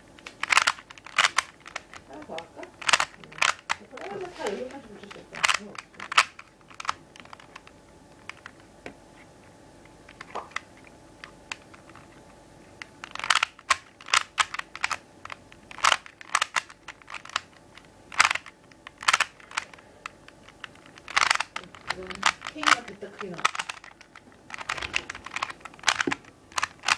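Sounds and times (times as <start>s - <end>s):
puzzle cube layers clicking: 0.2s - 8.6s, 12.9s - 26.9s.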